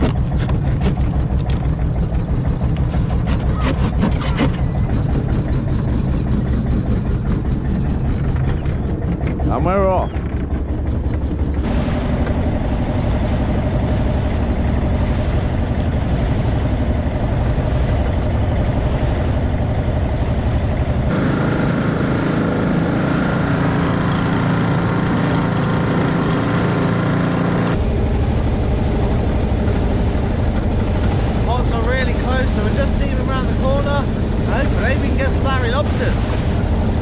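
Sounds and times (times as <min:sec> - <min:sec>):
boat engine running: 0:00.0 - 0:37.0
water rushing past hull: 0:00.0 - 0:37.0
wind: 0:00.0 - 0:37.0.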